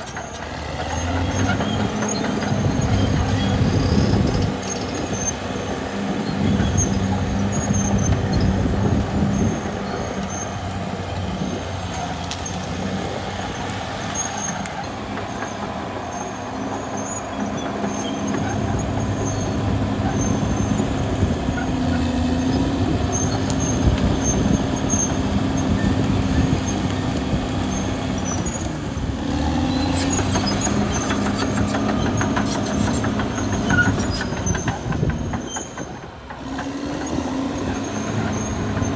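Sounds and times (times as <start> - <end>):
bulldozer diesel engine under load: 0.0 - 38.9
steel tracks squealing and clanking: 0.0 - 38.9.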